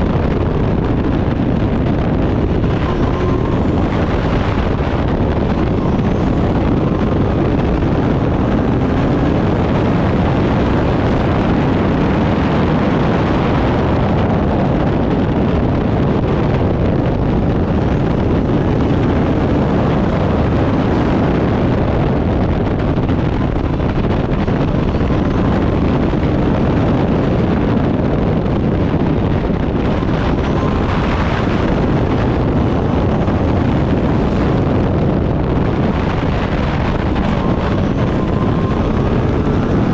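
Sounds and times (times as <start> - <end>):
race car engine: 0.0 - 39.9
wind noise on microphone: 0.0 - 39.9.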